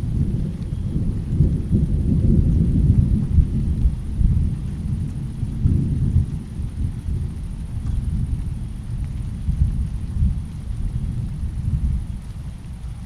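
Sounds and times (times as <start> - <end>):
rainstorm: 0.0 - 13.0
thunder rumbling: 0.0 - 13.0.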